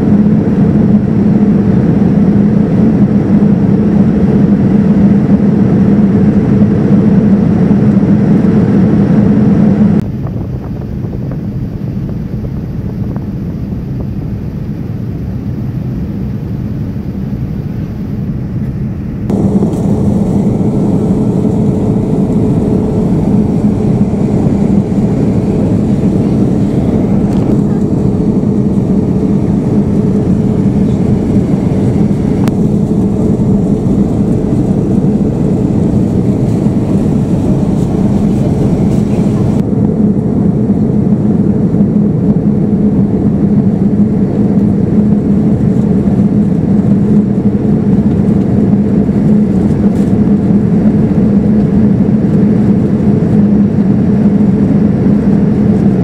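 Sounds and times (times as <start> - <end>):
airliner cabin airflow and engine drone: 0.0 - 56.0
steady low hum: 0.0 - 56.0.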